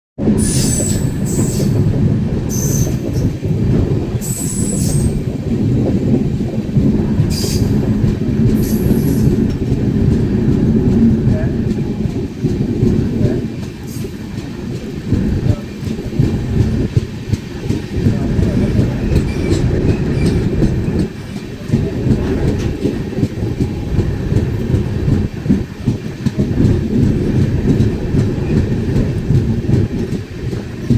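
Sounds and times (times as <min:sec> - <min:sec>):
train running: 0:00.2 - 0:30.9
wheels clattering over rails: 0:00.6 - 0:30.9.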